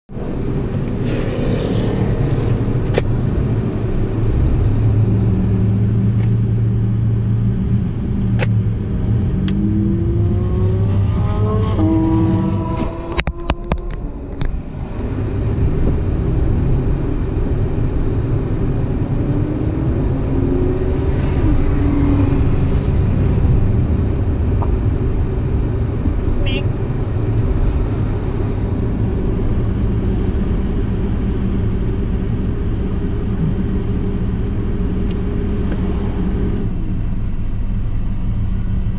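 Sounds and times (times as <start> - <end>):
car engine revving: 0.2 - 38.9.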